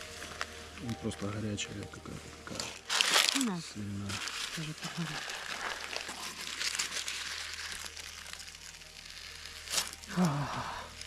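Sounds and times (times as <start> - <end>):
parchment paper crinkling: 0.0 - 11.0.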